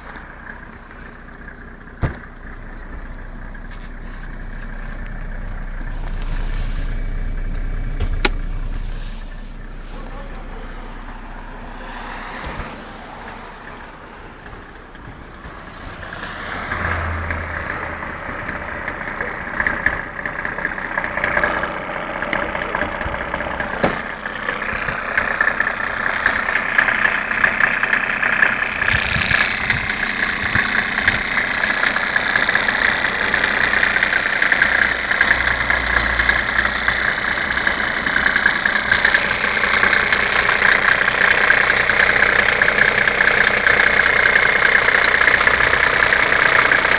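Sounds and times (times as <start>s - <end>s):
diesel engine idling with knock: 0.0s - 46.9s.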